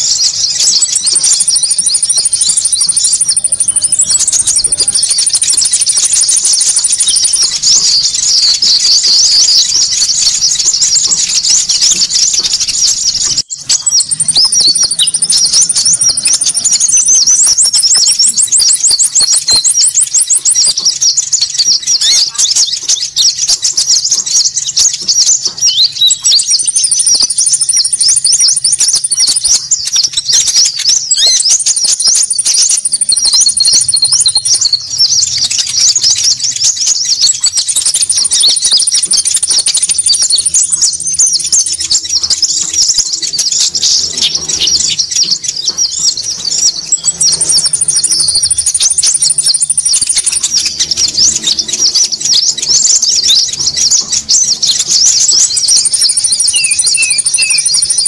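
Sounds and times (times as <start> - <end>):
birds chirping in a chorus: 0.0 - 58.0
high bird trills: 0.0 - 58.0.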